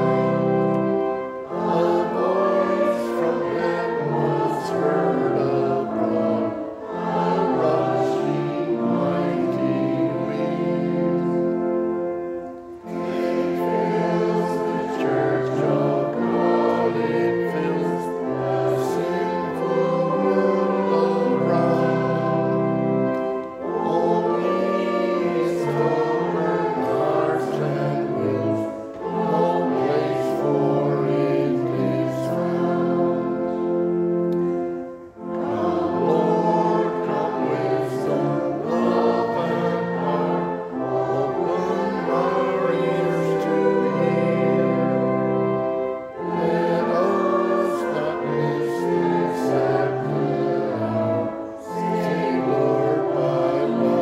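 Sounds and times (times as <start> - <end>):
choir singing a hymn: 0.0 - 54.0
pipe organ: 0.0 - 54.0.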